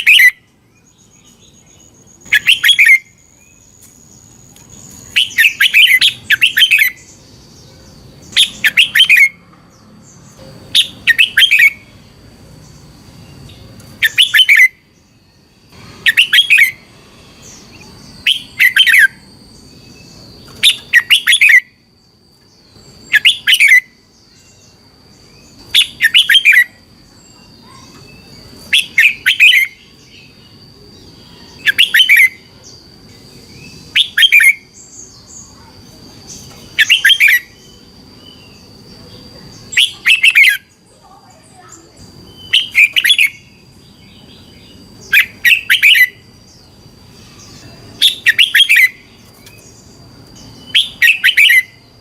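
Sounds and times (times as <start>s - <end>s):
bird singing warbling phrases: 0.0s - 52.0s
faint high-pitched whine: 0.0s - 52.0s.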